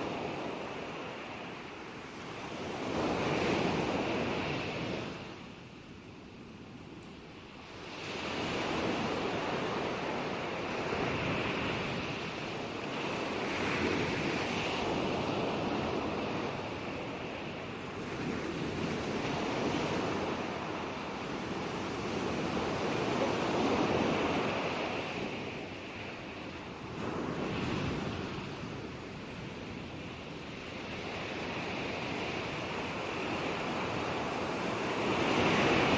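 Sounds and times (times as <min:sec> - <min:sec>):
ocean waves breaking on shore: 0:00.0 - 0:35.9.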